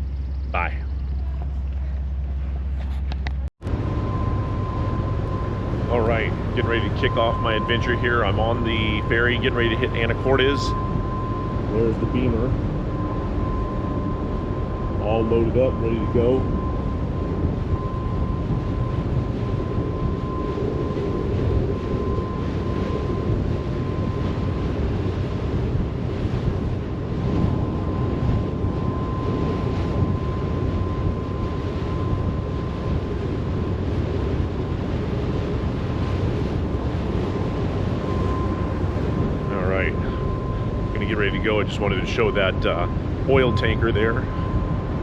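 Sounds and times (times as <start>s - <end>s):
ferry engine low rumble: 0.0s - 45.0s
thin steady whine: 0.0s - 45.0s
wind buffeting microphone: 0.0s - 45.0s.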